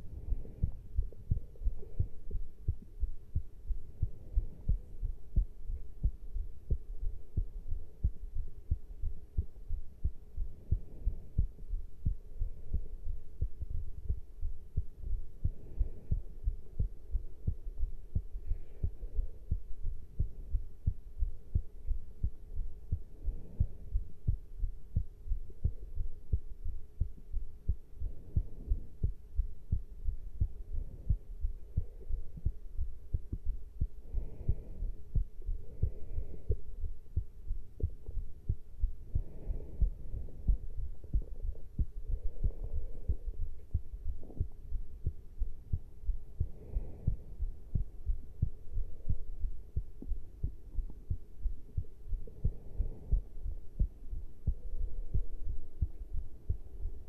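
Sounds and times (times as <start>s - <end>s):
faint steady hum: 0.0s - 57.0s
heart thuds: 0.0s - 57.0s.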